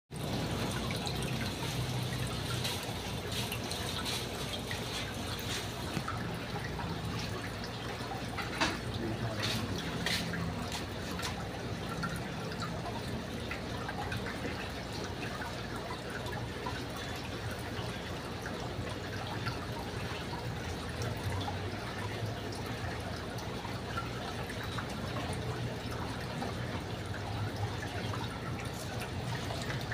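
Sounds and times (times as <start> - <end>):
water trickling and dripping: 0.1 - 29.9.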